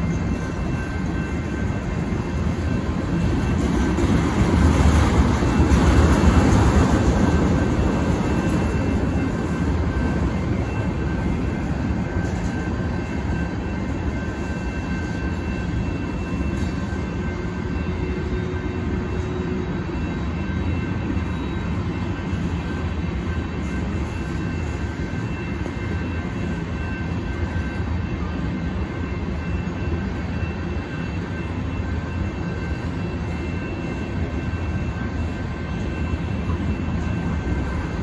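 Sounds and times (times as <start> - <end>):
crossing bells ringing: 0.0 - 38.0
train wheels rumbling on rails: 0.0 - 38.0.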